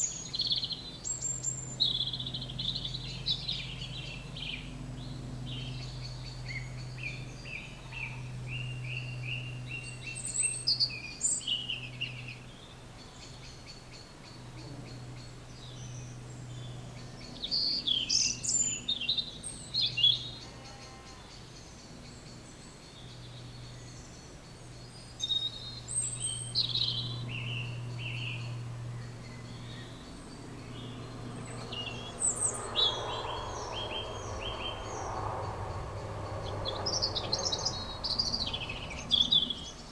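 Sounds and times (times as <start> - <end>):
songbirds chirping and trilling: 0.0 - 39.9
steady low hum: 0.0 - 39.9.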